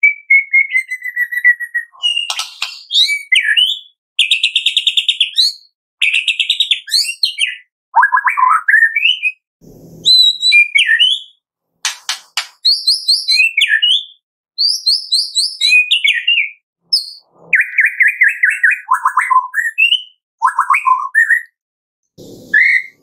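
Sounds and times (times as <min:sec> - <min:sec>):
songbird singing whistles and trills: 0:00.0 - 0:09.4, 0:10.0 - 0:11.4, 0:12.4 - 0:21.6, 0:22.5 - 0:23.0.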